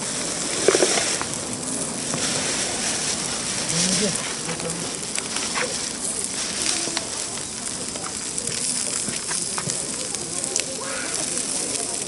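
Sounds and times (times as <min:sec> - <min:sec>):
cooking fire sizzling and crackling: 0:00.0 - 0:12.0.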